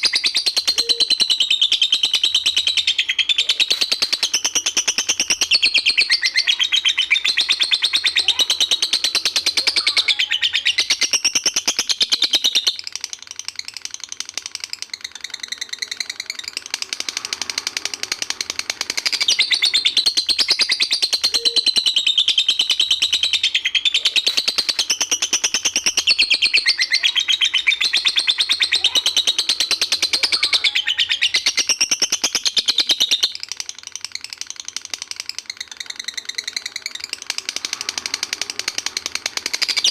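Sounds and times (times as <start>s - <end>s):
lovebird shrill chatter: 0.0s - 13.0s, 14.4s - 39.9s.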